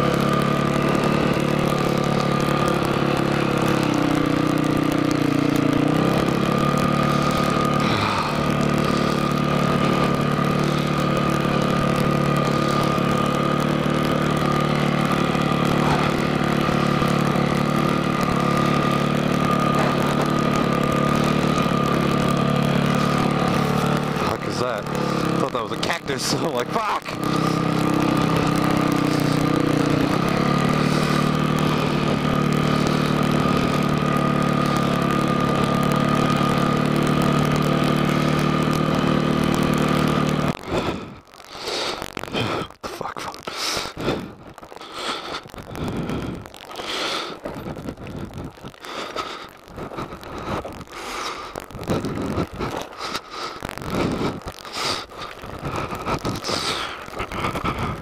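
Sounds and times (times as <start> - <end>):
dirt bike engine running: 0.0 - 58.0
tyres rolling over rocks and gravel: 0.0 - 58.0.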